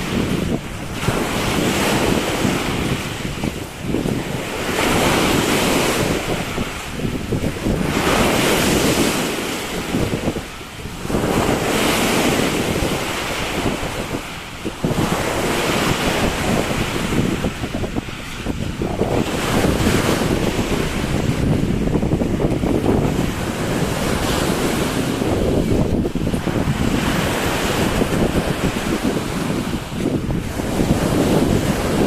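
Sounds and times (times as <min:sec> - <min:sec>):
surf washing onto beach: 0:00.0 - 0:32.0
wind buffeting microphone: 0:00.0 - 0:32.0.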